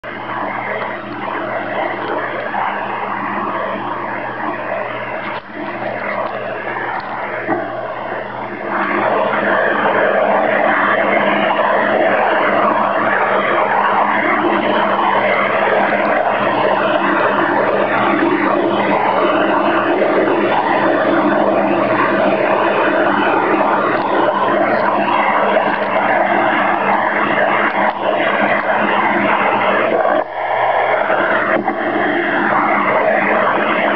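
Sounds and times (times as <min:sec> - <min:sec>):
rasping radio interference noise: 0:00.0 - 0:33.9
steady low hum: 0:00.0 - 0:33.9.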